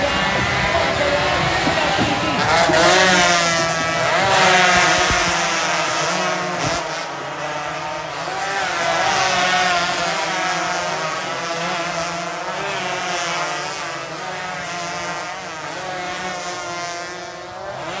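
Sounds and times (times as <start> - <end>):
motorcycle engines racing: 0.0 - 18.0.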